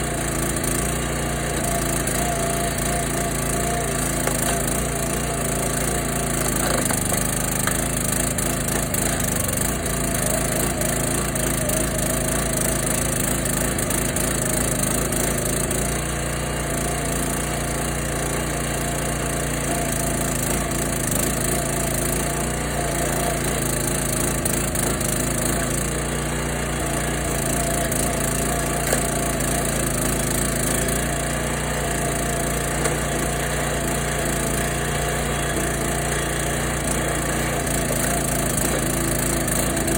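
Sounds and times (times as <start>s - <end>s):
log splitter engine running: 0.0s - 39.9s.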